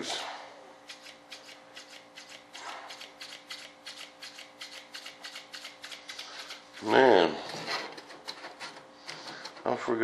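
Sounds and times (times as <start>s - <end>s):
hands rubbing and scraping parts: 0.9s - 9.8s.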